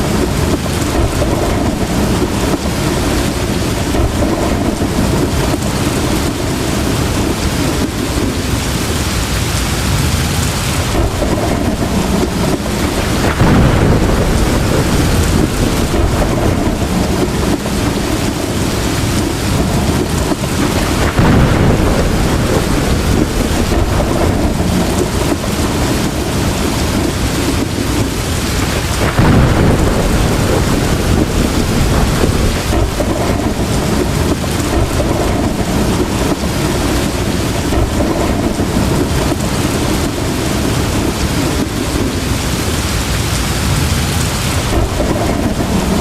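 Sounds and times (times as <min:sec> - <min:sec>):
heavy rain pouring: 0:00.0 - 0:46.0
rolling thunder: 0:00.0 - 0:46.0.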